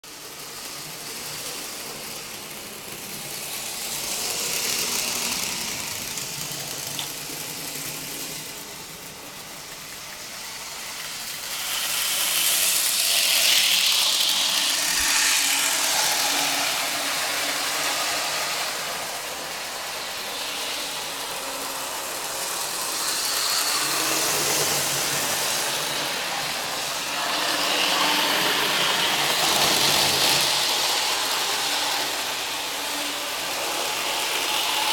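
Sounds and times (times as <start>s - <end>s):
model train wheels rattling: 0.1s - 34.9s
small electric motor whirr: 0.1s - 34.9s.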